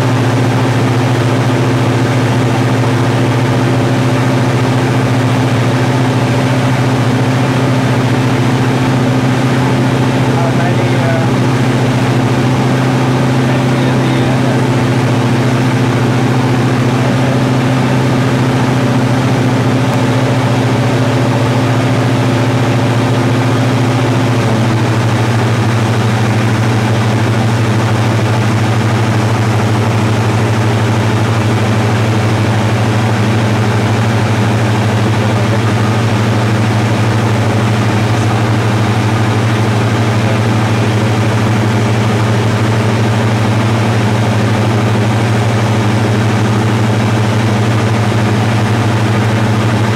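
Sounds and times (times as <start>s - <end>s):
aircraft engine and propeller drone: 0.0s - 49.9s.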